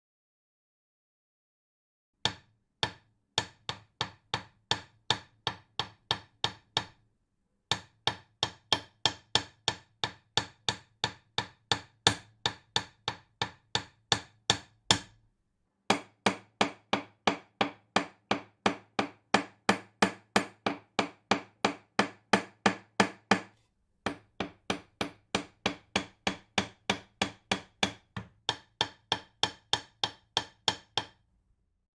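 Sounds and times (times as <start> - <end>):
hammer striking nail into wood: 2.2 - 7.0, 7.7 - 15.2, 15.9 - 31.2.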